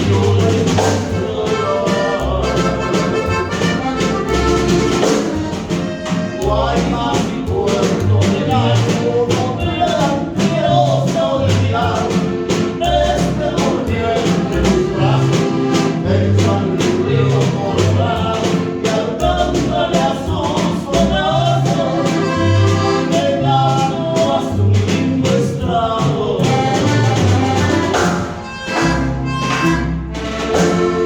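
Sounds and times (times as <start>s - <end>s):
band music with steady beat: 0.0s - 31.0s.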